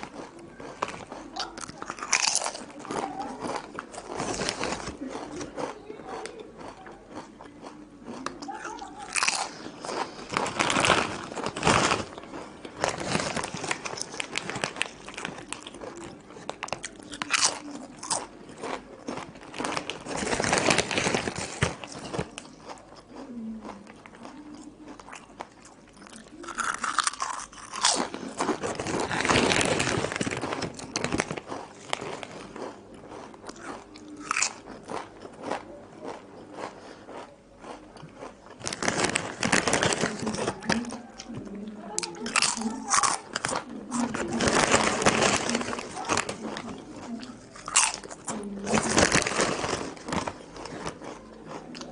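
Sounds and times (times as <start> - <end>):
crunchy chips crunching: 0.0 - 51.9
person chewing: 0.0 - 51.9.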